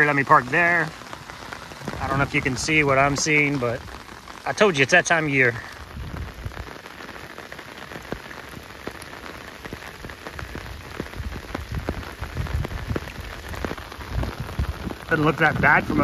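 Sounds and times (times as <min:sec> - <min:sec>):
raindrops ticking on a surface: 0:00.0 - 0:16.0
steady rain hiss: 0:00.0 - 0:16.0.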